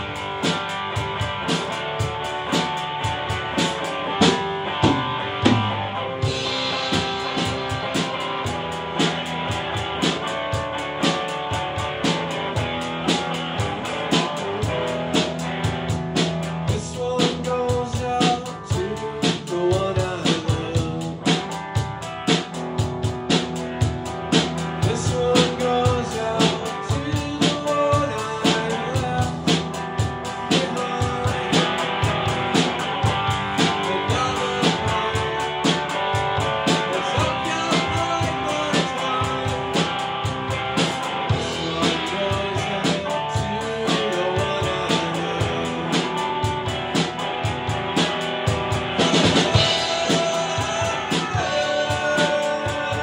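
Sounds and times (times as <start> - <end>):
drum kit beat: 0.0 - 53.0
guitars: 0.0 - 53.0.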